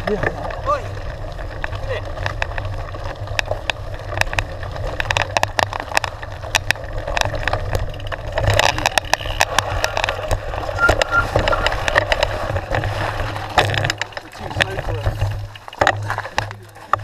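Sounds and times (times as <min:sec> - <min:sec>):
bike clicking and rattling: 0:00.0 - 0:17.0
tyre and wind rumble: 0:00.0 - 0:17.0.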